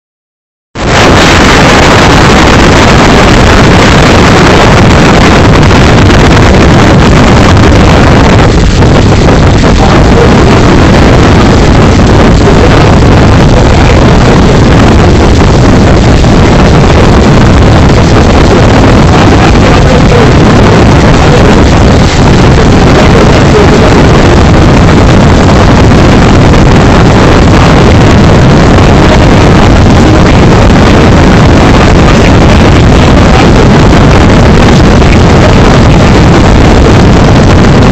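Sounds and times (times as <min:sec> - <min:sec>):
loud steady rushing noise: 0:00.8 - 0:37.9.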